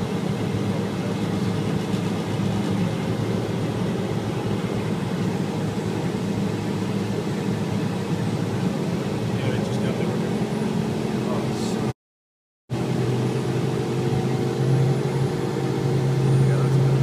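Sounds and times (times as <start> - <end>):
road noise: 0.0 - 12.0, 12.7 - 17.0
vehicle engine drone: 0.0 - 12.0, 12.7 - 17.0.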